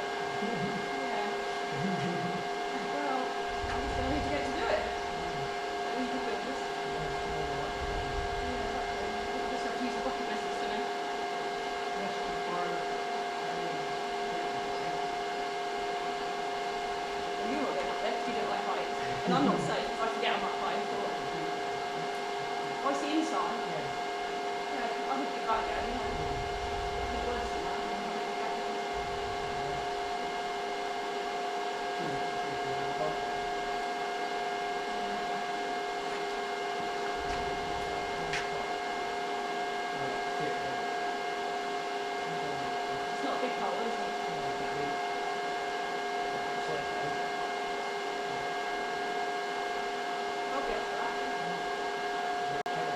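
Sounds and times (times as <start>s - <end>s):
machine droning with whining tones: 0.0s - 52.9s.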